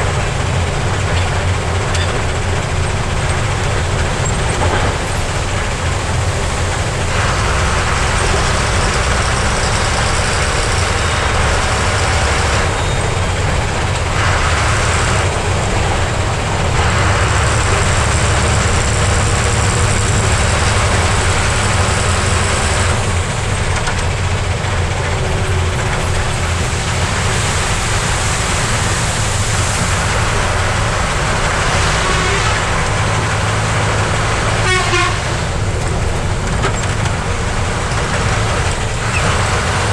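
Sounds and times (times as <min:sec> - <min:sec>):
road and wind noise: 0:00.0 - 0:39.9
truck diesel engine under load: 0:00.0 - 0:39.9.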